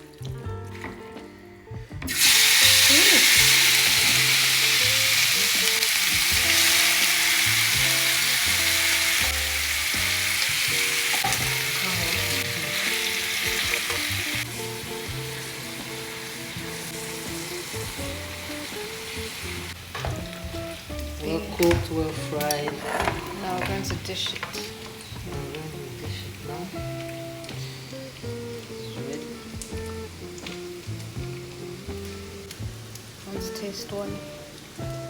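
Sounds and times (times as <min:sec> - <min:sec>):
food sizzling in hot oil: 0:02.1 - 0:35.0.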